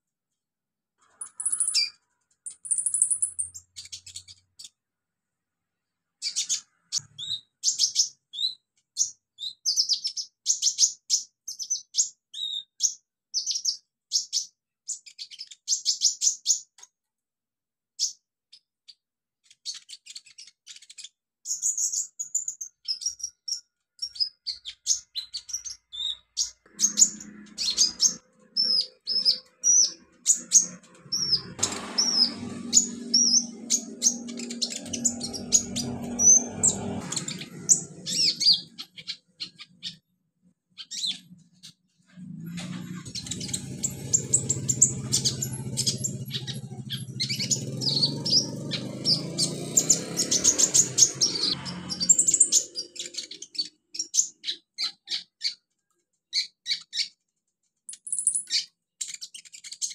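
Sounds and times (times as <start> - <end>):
bird chirping: 1.0 - 4.9, 6.1 - 16.9, 18.0 - 59.9.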